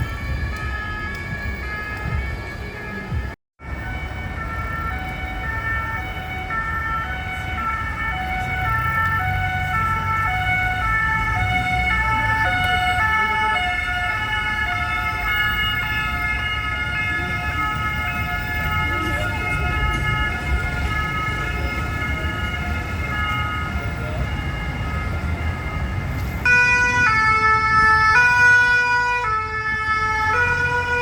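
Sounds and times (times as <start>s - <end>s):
two-tone police sirens: 0.0s - 31.0s
vehicle engines rumbling: 0.0s - 31.0s.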